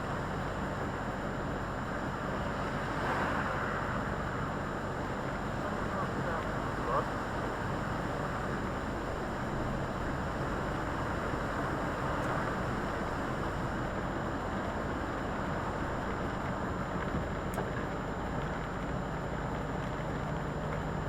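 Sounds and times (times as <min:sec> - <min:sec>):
lorry engine hum: 0:00.0 - 0:21.0
road noise: 0:00.0 - 0:21.0.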